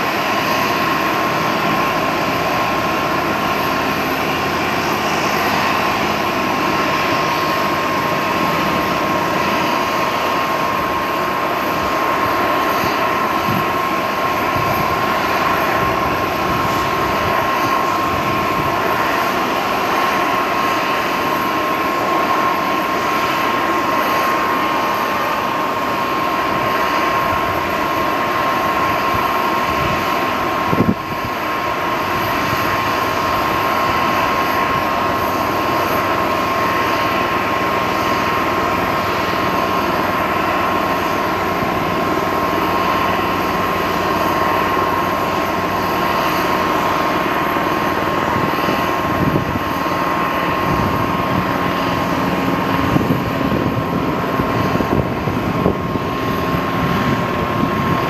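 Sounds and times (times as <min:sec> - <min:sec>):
turboprop engines idling: 0:00.0 - 0:58.0.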